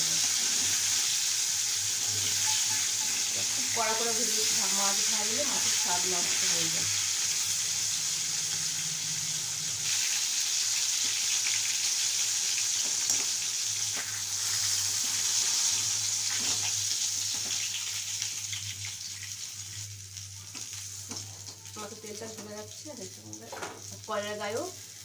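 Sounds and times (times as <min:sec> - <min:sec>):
fish frying in hot oil: 0:00.0 - 0:25.0.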